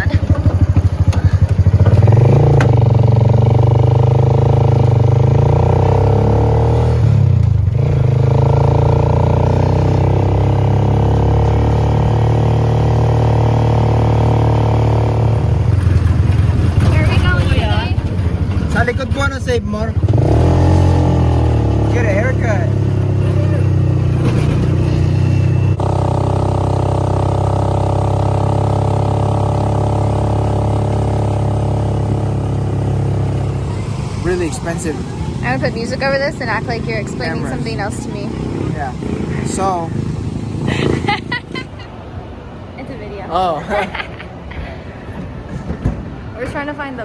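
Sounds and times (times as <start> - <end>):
vehicle engine running: 0.0 - 41.6.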